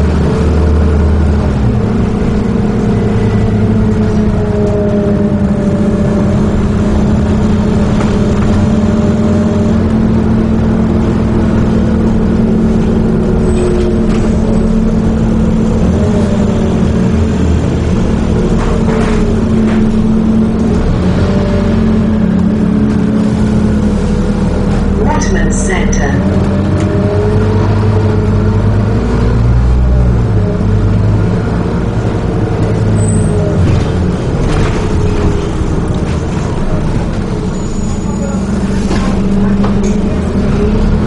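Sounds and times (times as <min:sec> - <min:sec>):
bus engine droning: 0:00.0 - 0:41.0.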